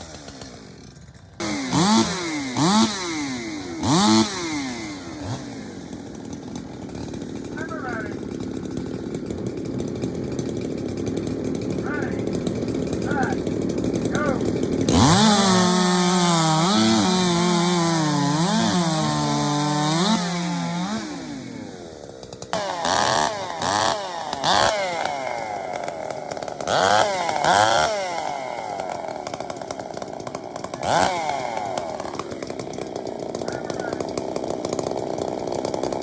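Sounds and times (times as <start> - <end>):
chainsaw cutting under load: 0.0 - 36.0
chainsaw revving in bursts: 0.0 - 36.0.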